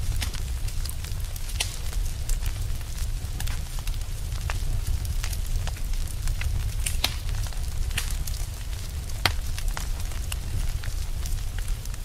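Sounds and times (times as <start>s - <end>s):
log fire crackling: 0.0s - 12.0s.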